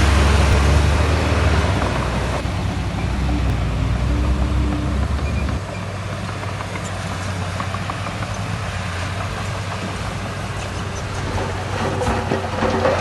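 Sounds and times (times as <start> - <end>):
heavy diesel engine rumbling: 0.0 - 13.0.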